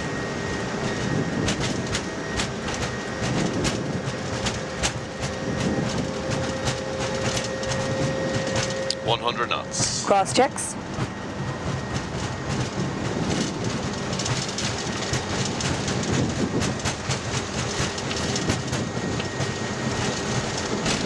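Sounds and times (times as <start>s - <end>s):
jet engines at takeoff thrust: 0.0s - 21.0s
wheels rumbling on runway: 0.0s - 21.0s.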